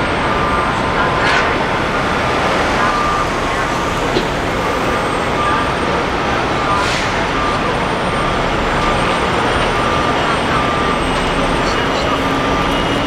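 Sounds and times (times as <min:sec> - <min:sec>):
heavy truck engine running: 0:00.0 - 0:13.0.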